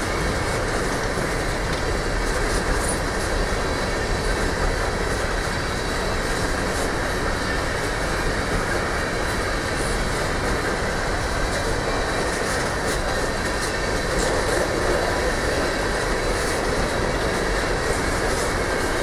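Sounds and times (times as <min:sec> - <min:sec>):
freight train wheels rumbling on rails: 0:00.0 - 0:19.0.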